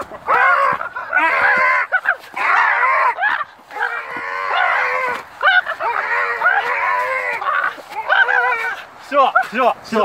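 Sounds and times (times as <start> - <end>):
men yelling and crying out: 0.0 - 10.0.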